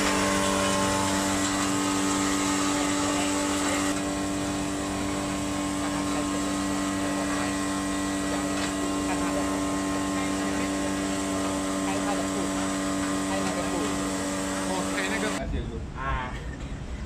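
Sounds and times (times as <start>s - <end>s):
flour mill motor hum and whine: 0.0s - 15.4s.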